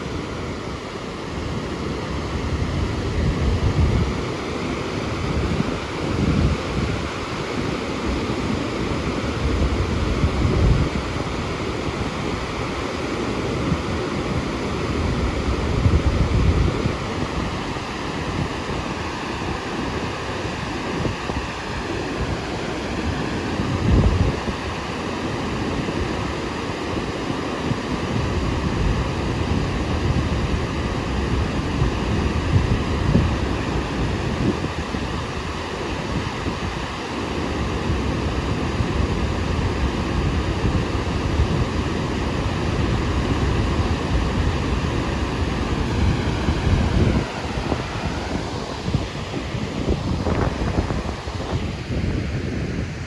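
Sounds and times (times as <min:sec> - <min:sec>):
water rushing through floodgates: 0:00.0 - 0:53.0
wind buffeting microphone: 0:00.0 - 0:53.0.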